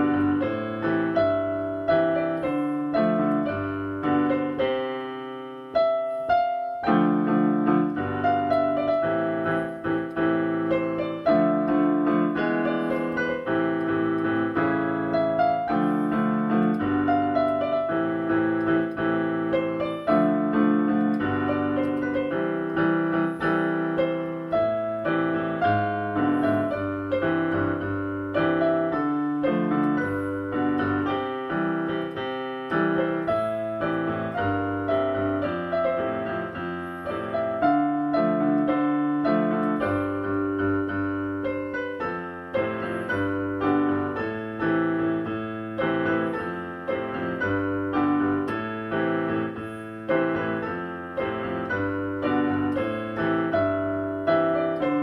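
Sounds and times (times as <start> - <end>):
solo piano pop song: 0.0 - 55.0.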